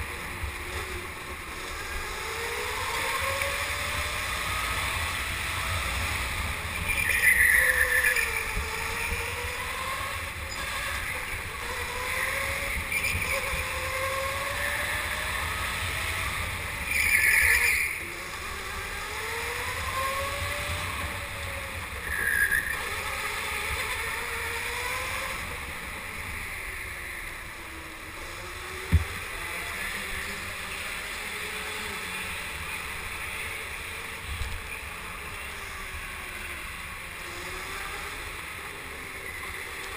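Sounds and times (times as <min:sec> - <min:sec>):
go-kart motor whining: 0:00.0 - 0:39.9.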